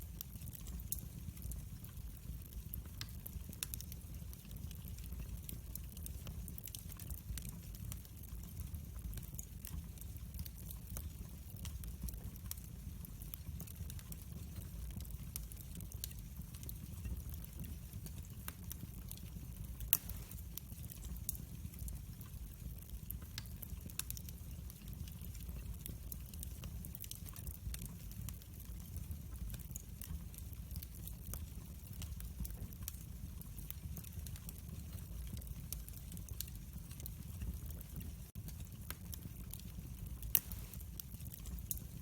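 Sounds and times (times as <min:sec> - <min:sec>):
low rumble of flames: 0:00.0 - 0:42.0
logs crackling and popping: 0:00.2 - 0:42.0.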